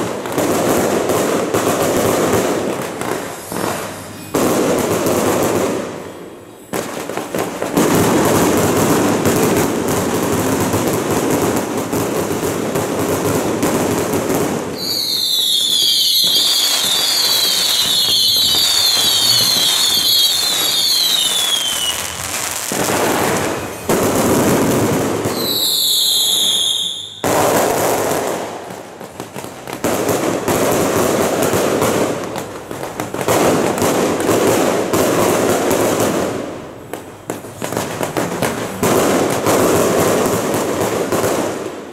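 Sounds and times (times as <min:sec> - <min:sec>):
firecrackers crackling: 0:00.0 - 0:41.9
whistling fireworks: 0:00.0 - 0:41.9.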